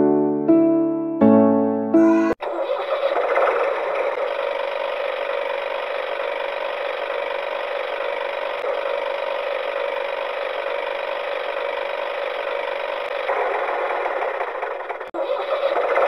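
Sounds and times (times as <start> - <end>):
steady mechanical whirring: 2.4 - 16.0.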